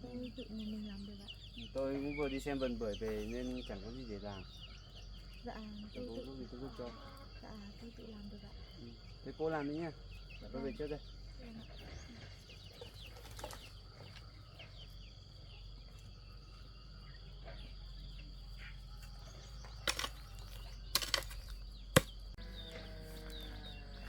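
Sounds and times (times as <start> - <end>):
high insect drone: 0.0 - 24.0
small birds chirping: 0.0 - 24.0.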